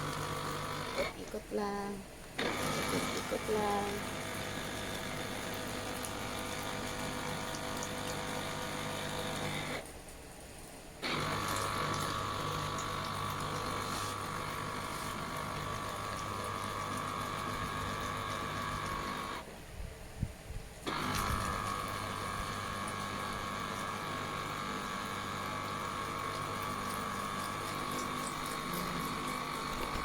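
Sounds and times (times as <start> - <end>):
electric juicer motor running: 0.0 - 1.3, 2.3 - 9.9, 11.0 - 19.5, 20.8 - 30.0.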